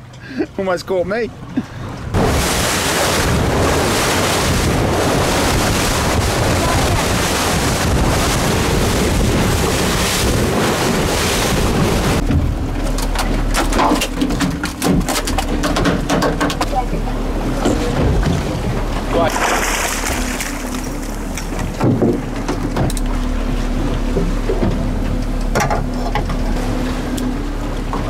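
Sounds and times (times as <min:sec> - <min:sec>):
boat wake splashing: 0:00.0 - 0:28.0
low steady hum: 0:00.0 - 0:28.0
rush of wind and water: 0:00.0 - 0:28.0.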